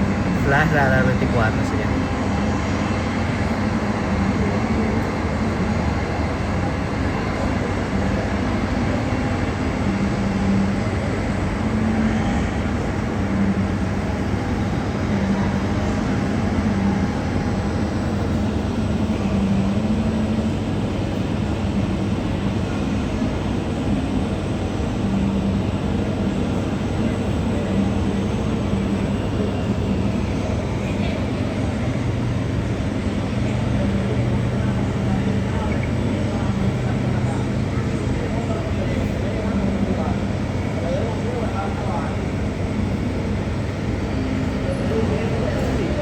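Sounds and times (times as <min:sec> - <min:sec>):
jet engines running: 0:00.0 - 0:46.0.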